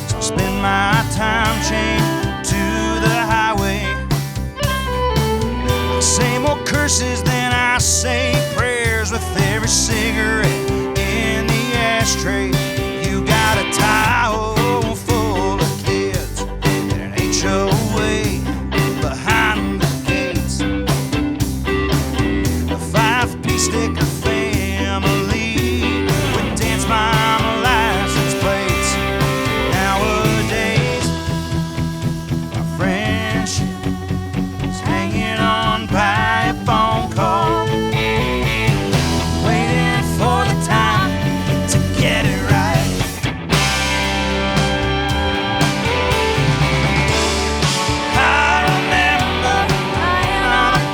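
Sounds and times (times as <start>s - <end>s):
country rock band playing: 0.0s - 50.9s
drums beating: 0.0s - 50.9s.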